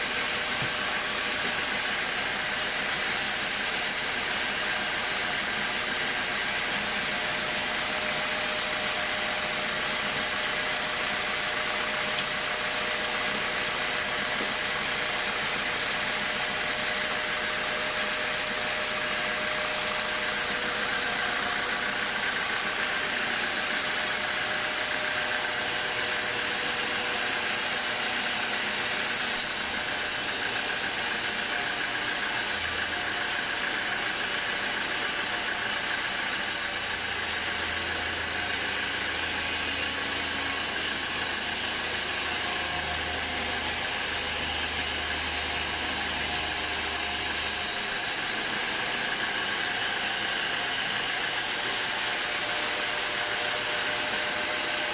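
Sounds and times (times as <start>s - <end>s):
band saw cutting a log: 0.0s - 54.9s.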